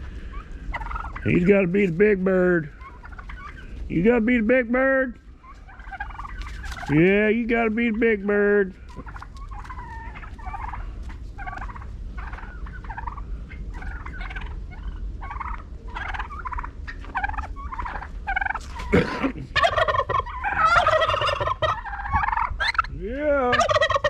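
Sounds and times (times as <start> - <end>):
turkeys gobbling: 0.0 - 24.0.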